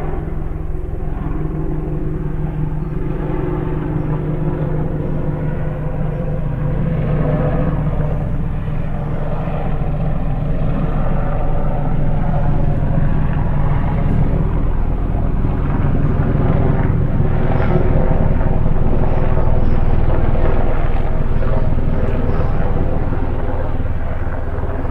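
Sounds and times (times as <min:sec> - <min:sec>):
distant helicopter rotor drone: 0:00.0 - 0:24.9.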